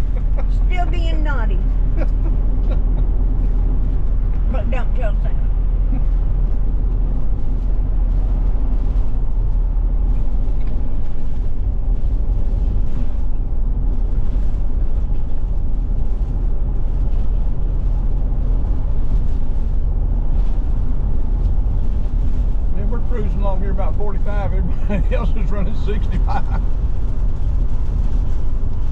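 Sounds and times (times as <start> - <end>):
vehicle road noise inside cab: 0.0 - 28.9.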